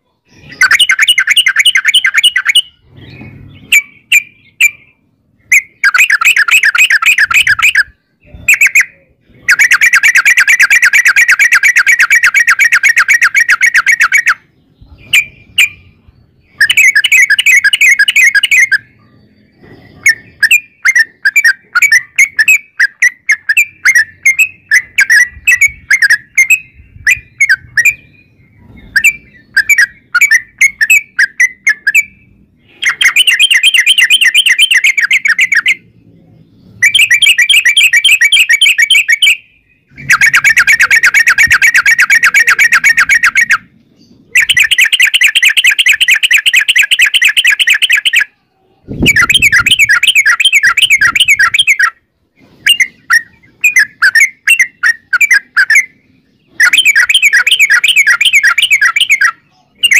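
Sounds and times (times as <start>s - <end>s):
bird chattering trills: 0.2s - 52.0s, 52.7s - 59.9s.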